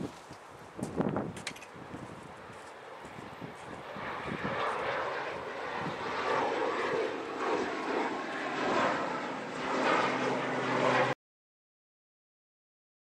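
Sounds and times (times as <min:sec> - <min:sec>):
jet engine rush: 0:00.0 - 0:11.2.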